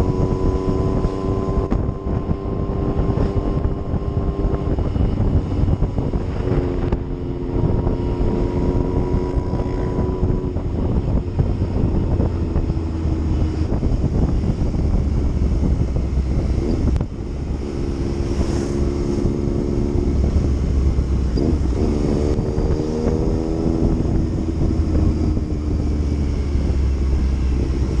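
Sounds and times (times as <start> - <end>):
motorcycle engine running: 0.0 - 28.0
wind on microphone: 0.0 - 28.0.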